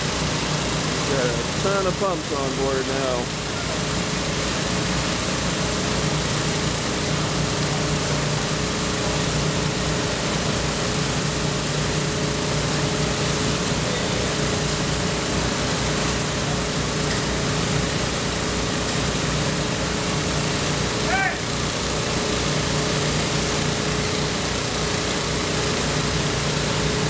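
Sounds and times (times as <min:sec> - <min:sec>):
engine machinery droning: 0:00.0 - 0:27.0.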